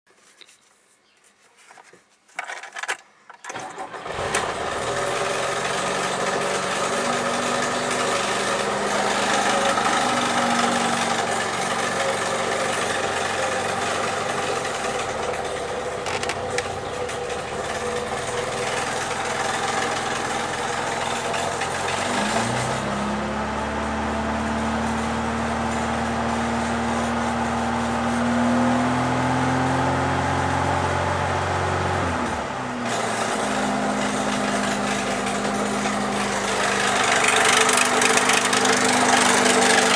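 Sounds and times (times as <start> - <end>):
engine cranking and running: 2.4 - 29.5, 30.6 - 39.9.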